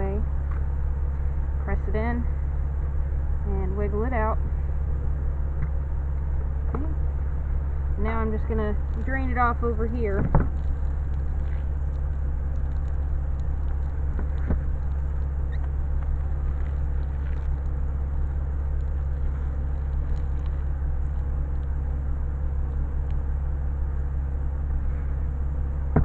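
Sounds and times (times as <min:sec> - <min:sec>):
low engine-like rumble: 0:00.0 - 0:26.0.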